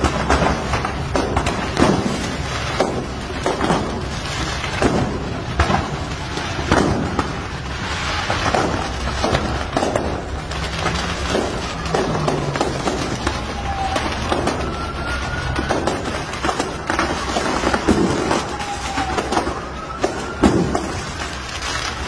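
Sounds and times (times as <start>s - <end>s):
fireworks cracking and banging: 0.0s - 22.0s.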